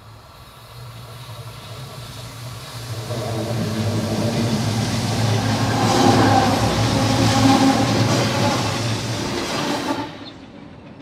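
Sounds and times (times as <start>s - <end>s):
diesel locomotive engine hum: 0.0s - 11.0s.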